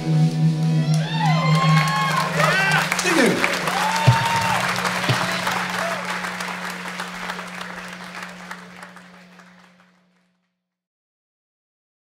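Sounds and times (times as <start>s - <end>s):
low hum: 0.0s - 9.9s
audience applauding: 0.6s - 10.3s.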